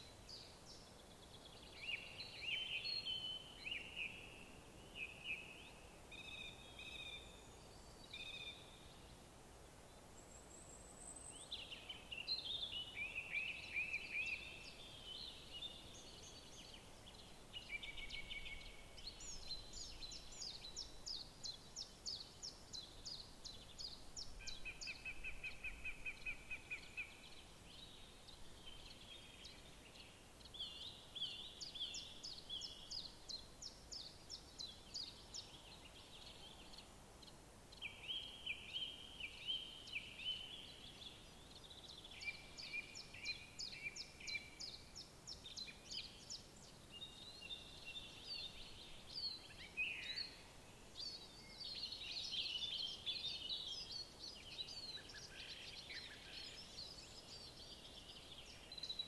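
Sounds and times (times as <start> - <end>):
faint background hiss: 0.0 - 59.0
songbirds singing: 0.0 - 59.0.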